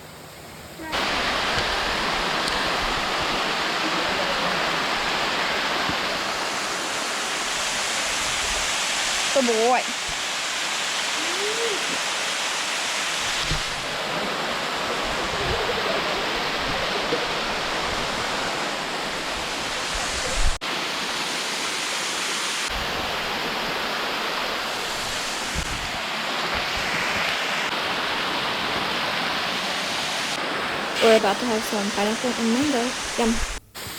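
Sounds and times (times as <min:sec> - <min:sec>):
waterfall rushing: 0:00.8 - 0:33.6.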